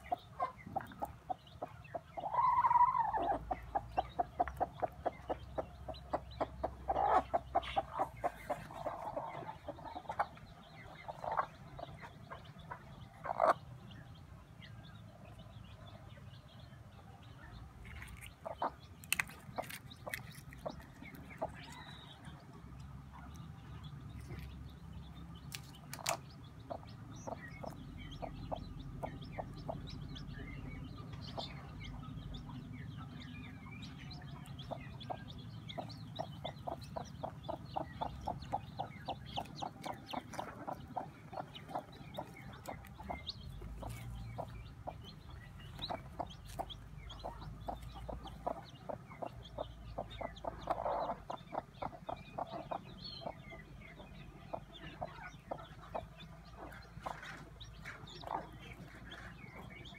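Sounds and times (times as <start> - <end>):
hen clucking: 0.0 - 14.0, 17.8 - 59.9.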